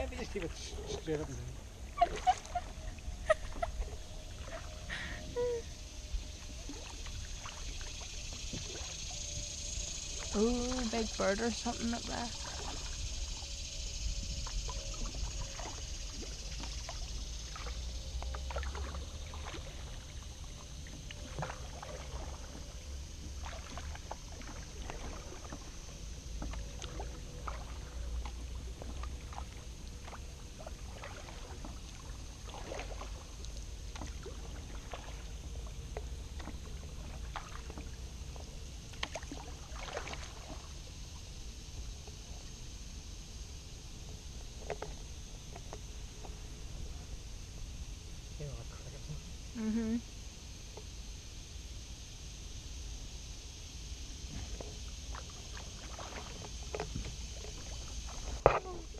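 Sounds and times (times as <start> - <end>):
paddle splashing in water: 0.0 - 5.5, 6.1 - 13.5, 14.1 - 46.9, 54.2 - 58.9.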